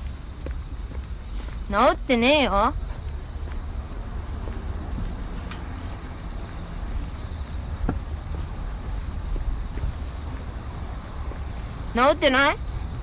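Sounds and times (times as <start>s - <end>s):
crickets chirping: 0.0s - 13.0s
low background rumble: 0.0s - 13.0s.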